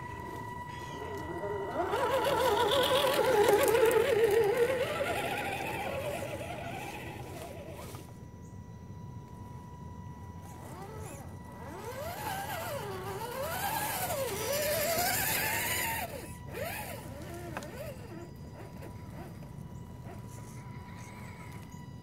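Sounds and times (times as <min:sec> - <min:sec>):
tyres crackling on dry leaves: 0:00.0 - 0:08.2, 0:10.4 - 0:20.3
rc truck motor whine: 0:00.0 - 0:22.0.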